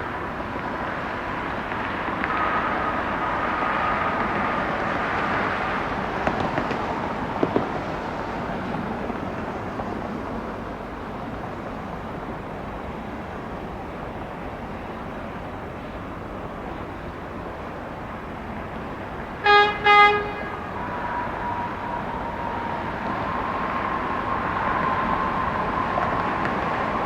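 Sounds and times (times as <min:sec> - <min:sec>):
jet airliner engines rushing: 0:00.0 - 0:14.8, 0:15.4 - 0:27.0.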